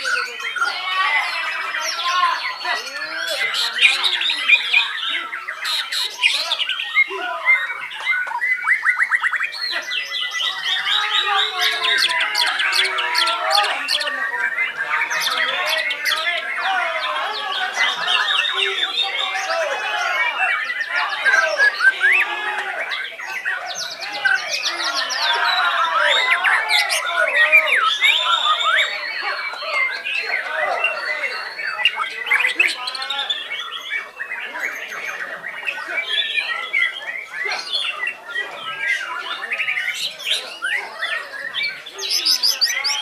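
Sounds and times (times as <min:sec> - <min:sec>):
birds singing in chorus: 0:00.0 - 0:43.0.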